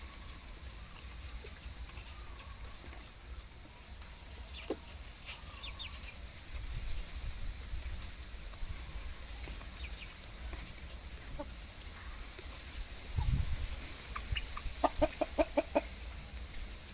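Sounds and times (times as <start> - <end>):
chickens clucking: 0.0 - 16.9.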